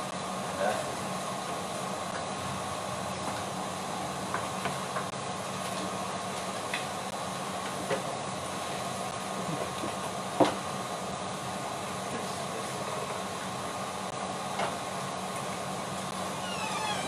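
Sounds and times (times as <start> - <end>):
electrical hiss and hum: 0.0 - 17.0.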